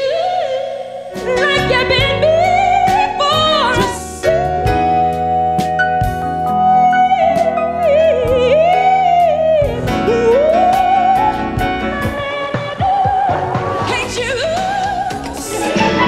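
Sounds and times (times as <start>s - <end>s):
woman singing with vibrato: 0.0s - 5.6s, 6.4s - 16.0s
band with bass and drums: 1.2s - 16.0s.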